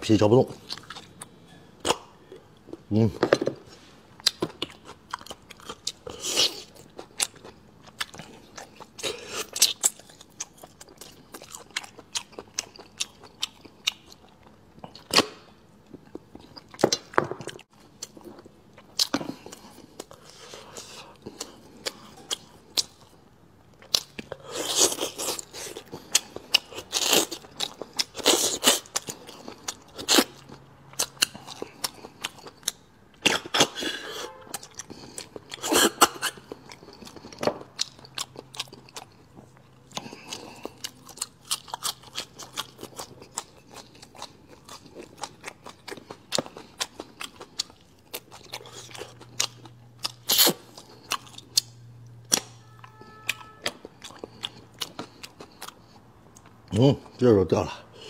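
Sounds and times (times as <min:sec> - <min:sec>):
close chewing and biting: 0:04.2 - 0:57.2.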